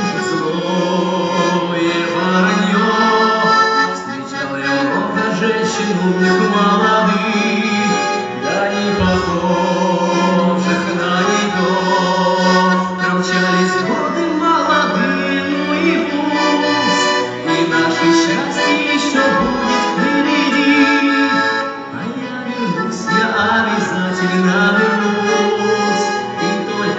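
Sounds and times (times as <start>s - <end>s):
accordion melody: 0.0s - 26.9s.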